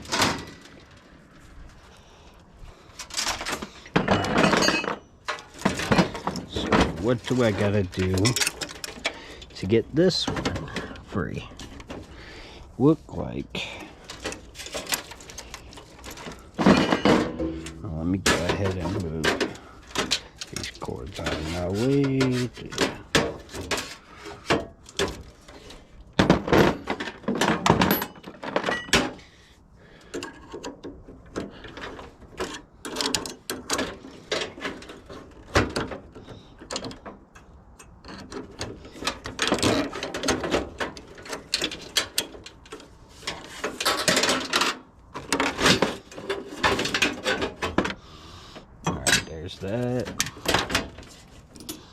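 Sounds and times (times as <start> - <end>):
metal parts clanking and scraping: 0.0 - 51.9.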